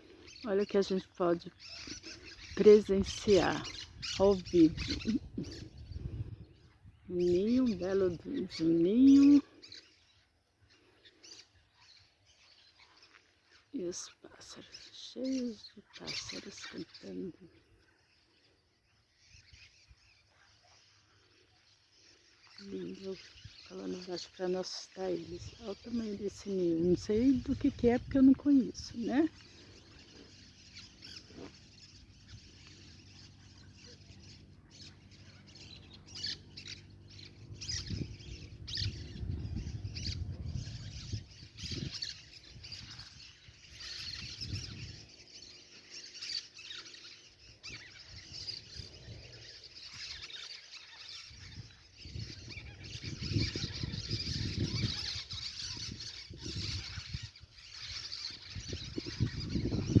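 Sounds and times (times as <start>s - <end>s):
birds chirping and squawking: 0.0s - 60.0s.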